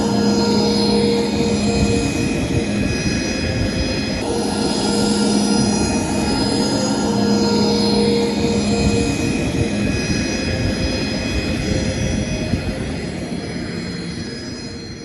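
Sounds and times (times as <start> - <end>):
high whining tones: 0.0 - 15.0.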